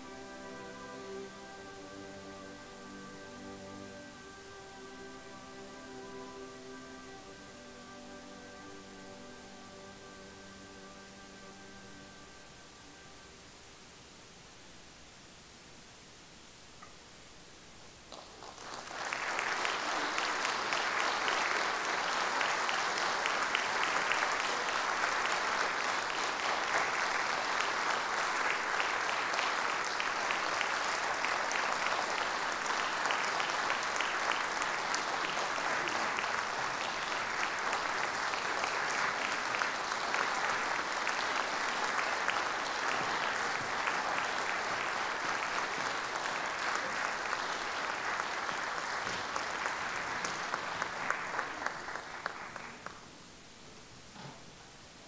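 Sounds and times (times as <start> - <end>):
audience applauding: 0.0 - 12.3, 18.0 - 53.3.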